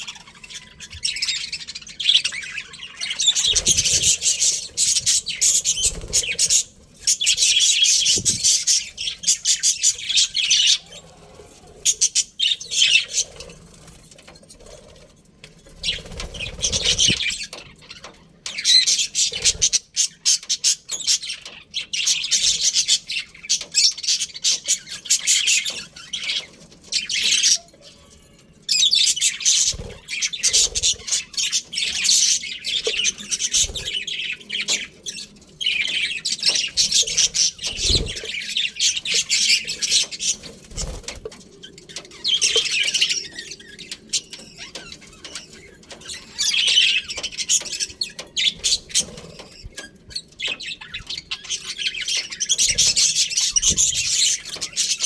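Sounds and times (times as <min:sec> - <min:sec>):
budgerigars chattering and chirping: 0:00.0 - 0:14.9, 0:15.6 - 0:55.0.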